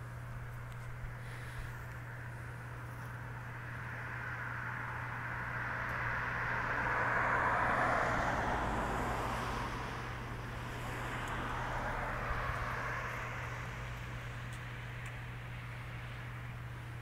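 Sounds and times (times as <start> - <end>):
cars passing: 2.2 - 17.0.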